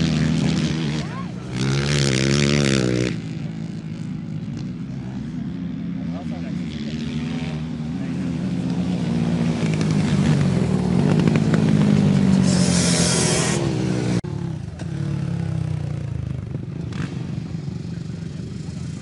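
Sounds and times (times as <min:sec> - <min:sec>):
quad engines revving: 0:00.0 - 0:19.0.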